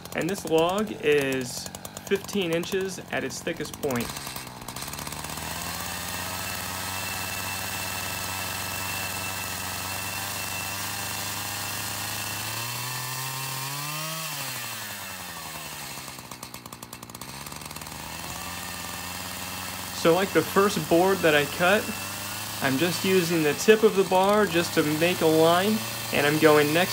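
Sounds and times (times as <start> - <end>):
chainsaw running: 0.0 - 26.9.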